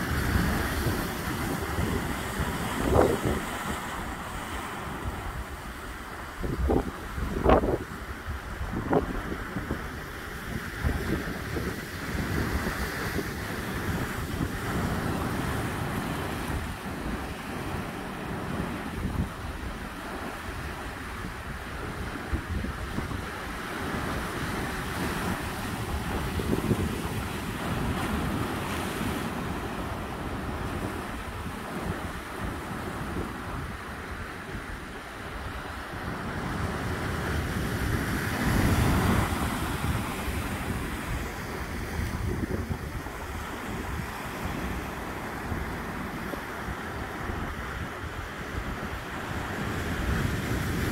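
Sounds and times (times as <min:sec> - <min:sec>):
ocean surf washing ashore: 0:00.0 - 0:50.9
wind buffeting microphone: 0:00.0 - 0:50.9.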